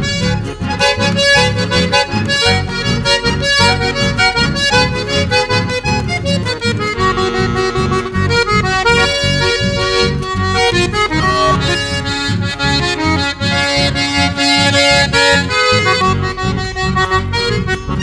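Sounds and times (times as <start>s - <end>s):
accordion folk melody: 0.0s - 18.0s.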